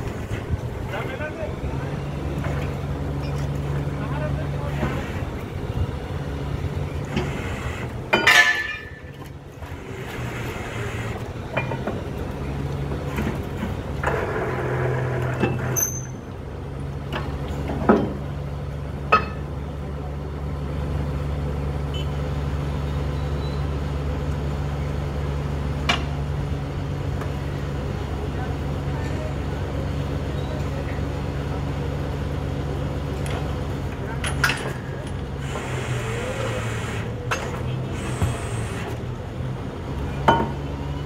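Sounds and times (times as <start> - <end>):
drilling rig engine running: 0.0 - 41.0.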